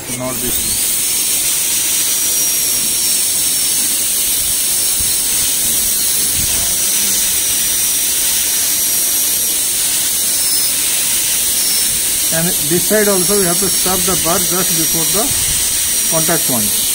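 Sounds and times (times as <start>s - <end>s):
dental drill whining: 0.0s - 16.9s
water spray hissing: 0.0s - 16.9s.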